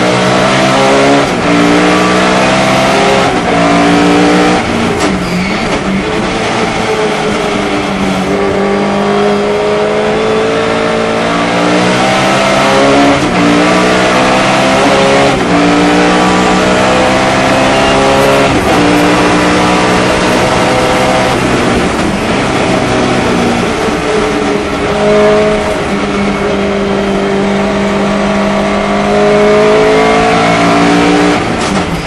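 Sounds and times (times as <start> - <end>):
race car engine revving: 0.0 - 32.0.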